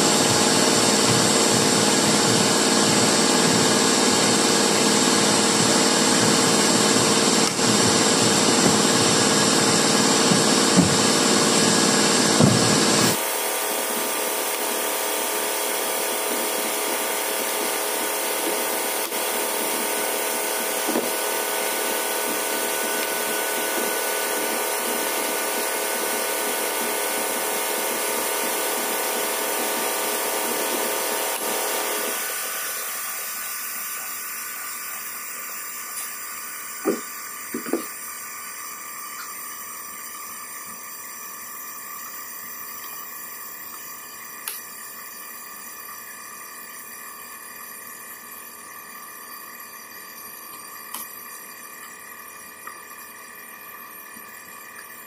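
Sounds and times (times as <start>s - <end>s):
machinery whirring: 0.0s - 44.6s.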